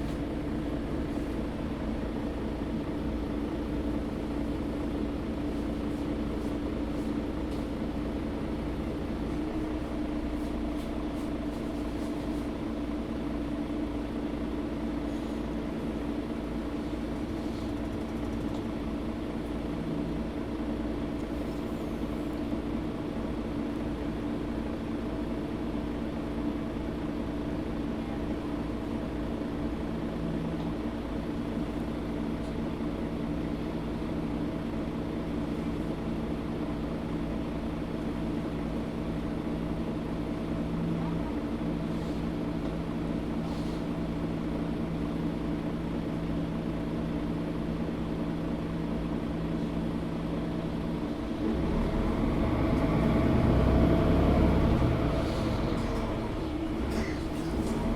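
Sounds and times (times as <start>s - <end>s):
bus engine hum: 0.0s - 57.9s.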